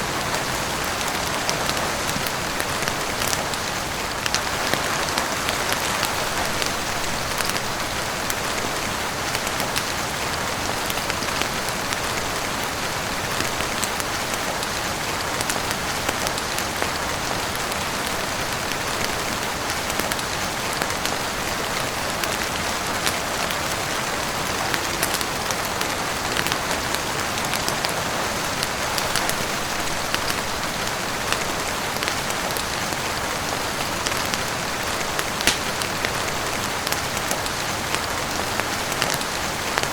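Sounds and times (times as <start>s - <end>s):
heavy rain on roof and windows: 0.0s - 39.9s.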